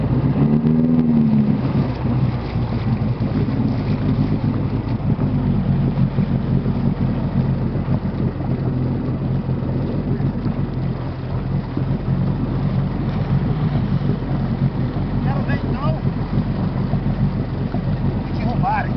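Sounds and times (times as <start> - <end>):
jet ski engine running: 0.0 - 18.9
wind on microphone: 0.0 - 18.9.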